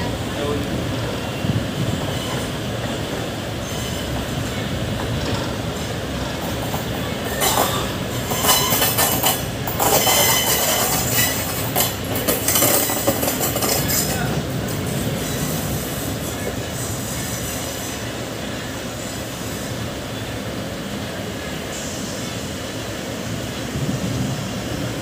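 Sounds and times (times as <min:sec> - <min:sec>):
train passing: 0:00.0 - 0:25.0
train wheel rumble and clatter: 0:00.0 - 0:25.0.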